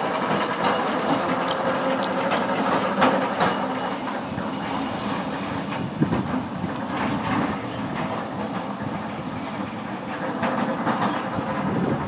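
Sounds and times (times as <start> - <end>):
tram wheels knocking on rails: 0.0 - 12.0.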